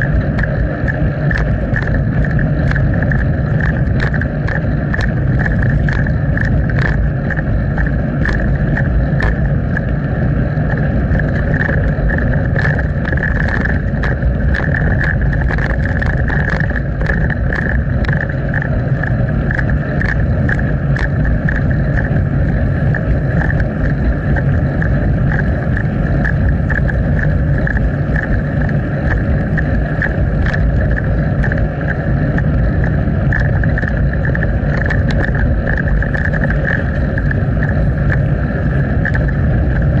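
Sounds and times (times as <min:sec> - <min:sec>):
bike clicks and rattles: 0:00.0 - 0:40.0
bike running over road: 0:00.0 - 0:40.0
wind rumbling on microphone: 0:00.0 - 0:40.0.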